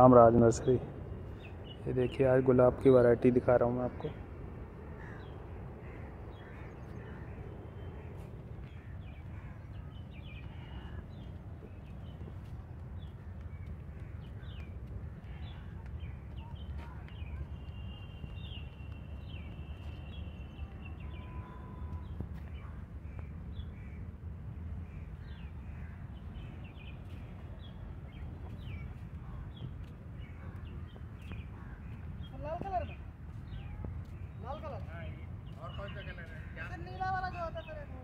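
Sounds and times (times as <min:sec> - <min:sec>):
birds chirping and calling: 0:00.0 - 0:24.0, 0:24.8 - 0:38.0
steady low rumble: 0:00.0 - 0:32.4.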